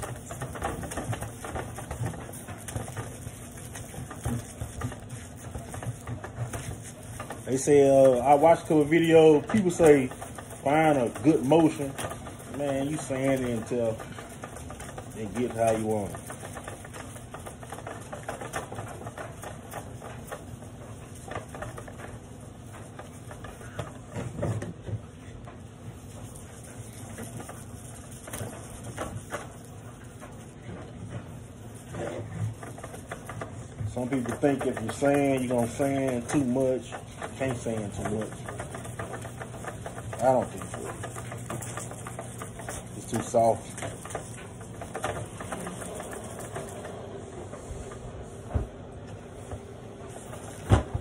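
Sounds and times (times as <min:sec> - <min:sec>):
sandpaper scratching plastic: 0:00.0 - 0:24.5, 0:25.9 - 0:48.4.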